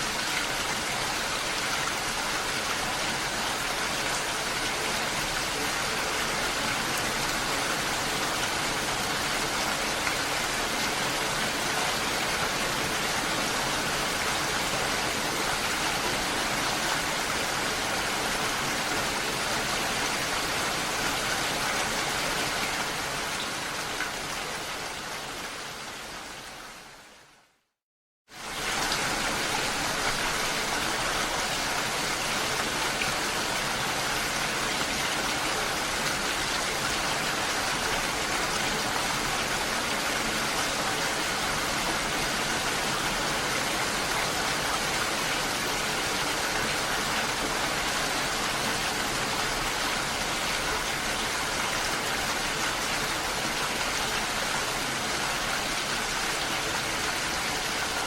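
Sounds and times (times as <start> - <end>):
rushing water: 0.0 - 27.6, 28.3 - 58.0.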